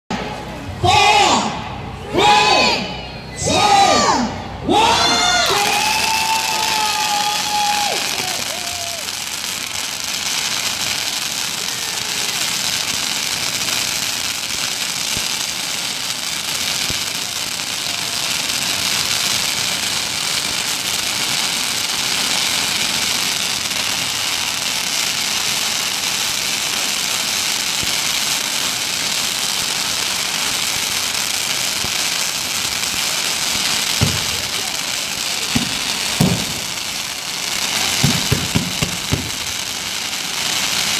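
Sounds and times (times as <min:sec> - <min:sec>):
firecrackers crackling: 0:04.2 - 0:40.9.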